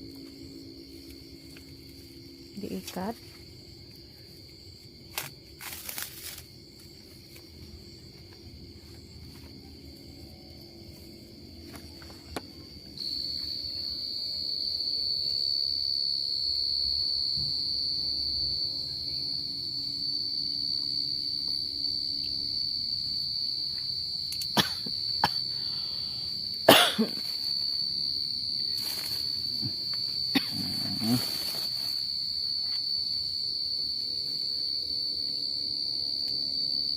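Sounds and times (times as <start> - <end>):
crickets chirring: 0.0 - 36.9.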